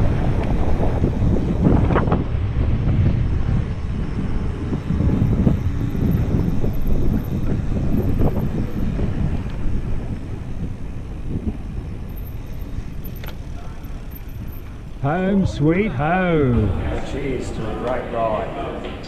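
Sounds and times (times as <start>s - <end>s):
bike tyres road noise: 0.0s - 19.0s
wind rumble on microphone: 0.0s - 19.0s.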